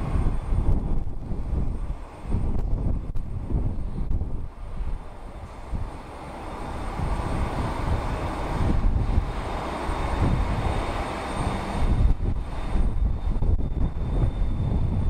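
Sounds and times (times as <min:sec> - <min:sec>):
jet taking off: 0:00.0 - 0:15.0
wind buffeting microphone: 0:00.0 - 0:15.0.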